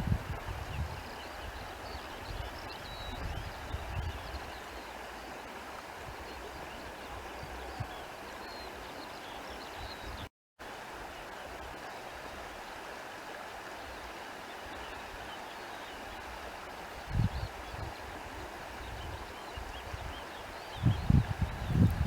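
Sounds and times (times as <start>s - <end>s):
flowing stream: 0.0s - 22.0s.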